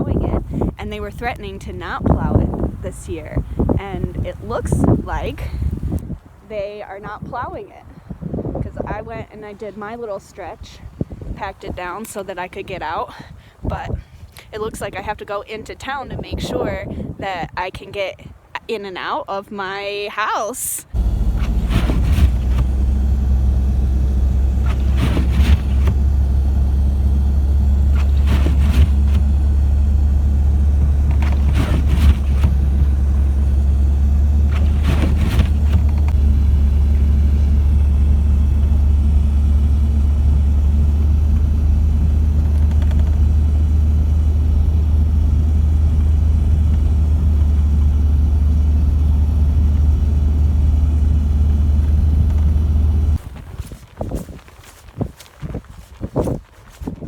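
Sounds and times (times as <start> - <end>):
vehicle engine and road rumble: 0.0 - 14.8, 20.9 - 57.0.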